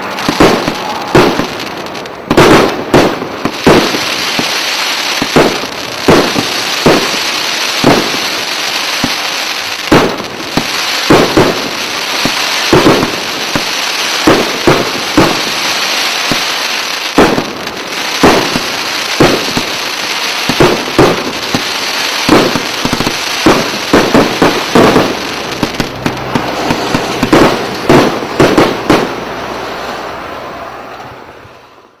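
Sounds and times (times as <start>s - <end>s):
firework hiss: 0.0s - 30.1s
firework bangs: 0.0s - 31.6s.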